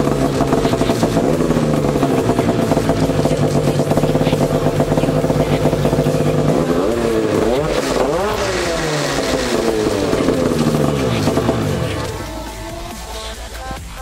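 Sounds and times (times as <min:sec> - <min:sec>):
engine revving: 0:00.0 - 0:14.0
snowmobile engine idling: 0:00.0 - 0:14.0.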